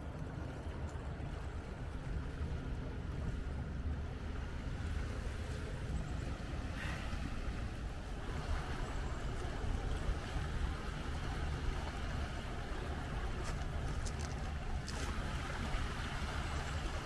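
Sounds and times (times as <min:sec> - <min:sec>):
outdoor noise: 0:00.0 - 0:17.0
steady low rumble: 0:00.0 - 0:17.0.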